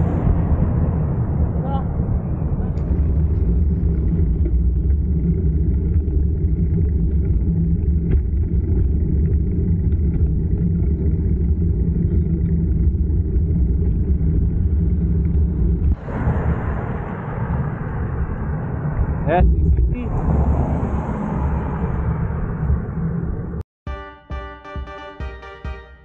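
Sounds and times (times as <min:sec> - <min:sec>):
wind buffeting microphone: 0:00.0 - 0:23.6.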